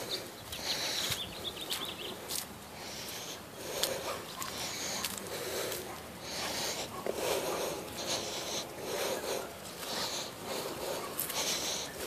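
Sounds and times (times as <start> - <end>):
heavy breathing: 0.0 - 1.6, 2.3 - 12.0.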